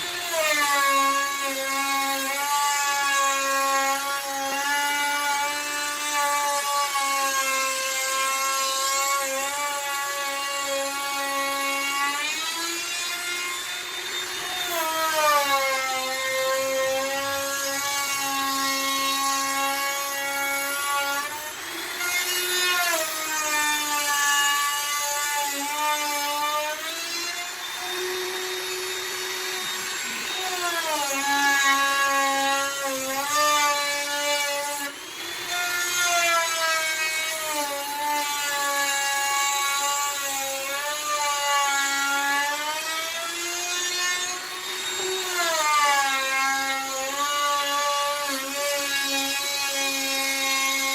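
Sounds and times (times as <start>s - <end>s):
electric router cutting wood: 0.0s - 50.9s.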